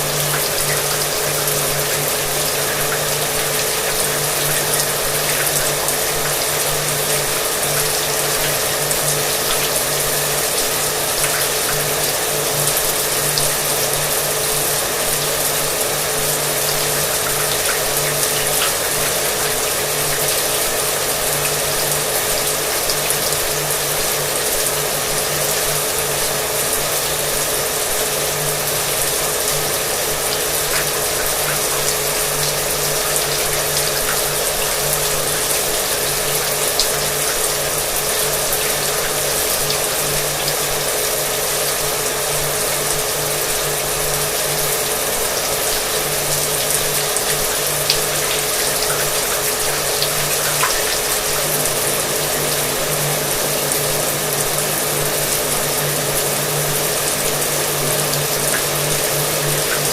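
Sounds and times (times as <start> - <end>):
shower water running: 0.0 - 59.9.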